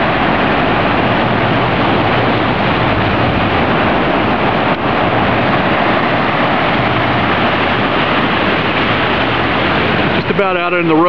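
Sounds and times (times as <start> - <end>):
flooded creek rushing: 0.0 - 11.0.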